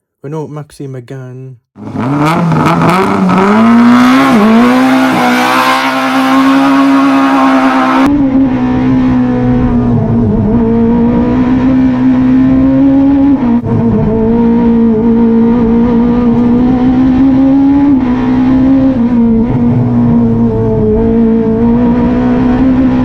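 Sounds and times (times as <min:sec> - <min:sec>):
rally car engine at high revs: 0:01.8 - 0:23.0.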